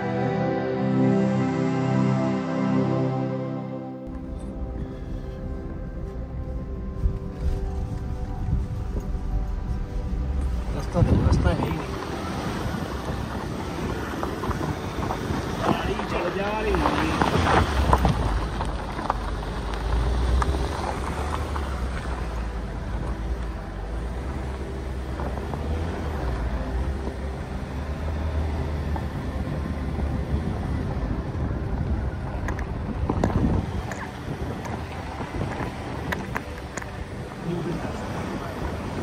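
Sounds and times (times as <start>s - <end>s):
car interior road rumble: 4.1s - 39.0s.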